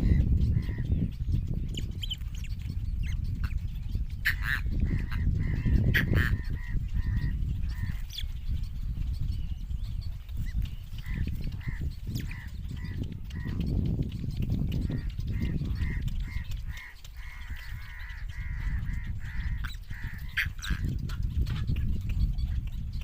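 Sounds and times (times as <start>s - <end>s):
bird chicks calling: 0.0s - 23.0s.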